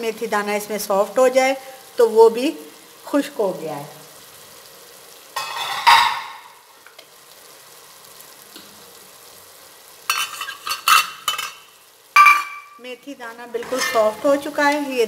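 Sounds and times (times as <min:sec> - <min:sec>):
seeds and onions sizzling in oil: 0:00.0 - 0:15.0.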